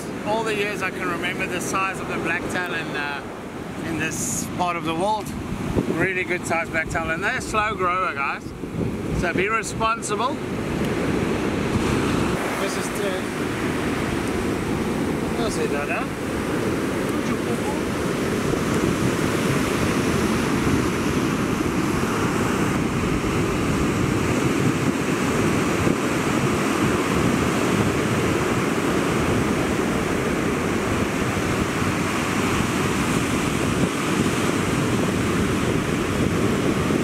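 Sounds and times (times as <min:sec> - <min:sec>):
ocean surf breaking: 0:00.0 - 0:37.0
wind on microphone: 0:00.0 - 0:37.0.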